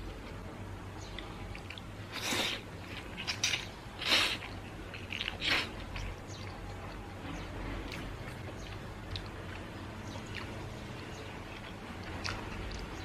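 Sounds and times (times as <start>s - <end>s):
chewing clicks: 1.0s - 2.3s, 2.9s - 7.0s, 7.9s - 13.0s.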